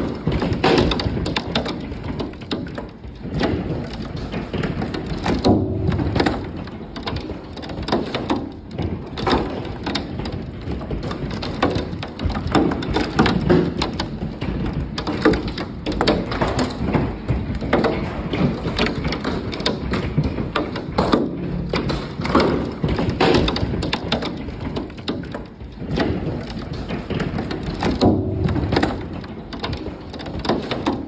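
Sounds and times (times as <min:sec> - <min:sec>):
hailstones knocking on boards: 0:00.0 - 0:31.0.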